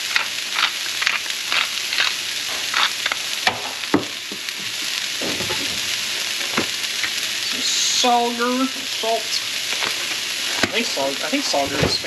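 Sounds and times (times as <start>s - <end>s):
vegetables sizzling in skillet: 0.0s - 12.0s.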